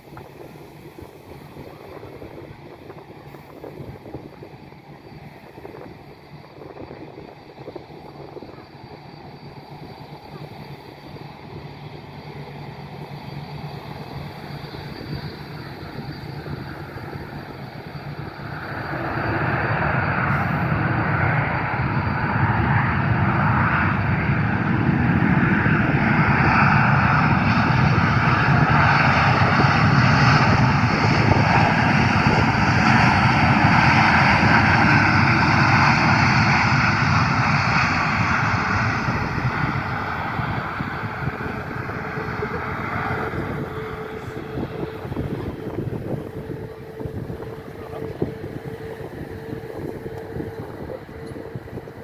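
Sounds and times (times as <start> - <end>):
airplane engines roaring: 0.0 - 52.0.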